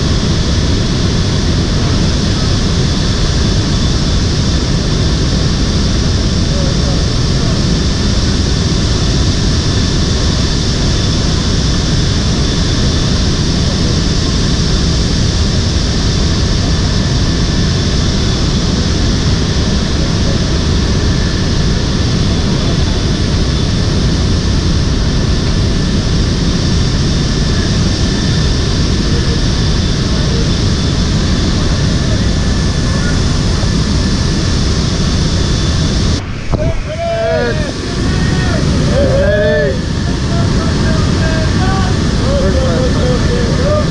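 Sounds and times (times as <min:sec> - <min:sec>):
faint high whine: 0:00.0 - 0:43.9
jet engine and airflow rush: 0:00.0 - 0:43.9.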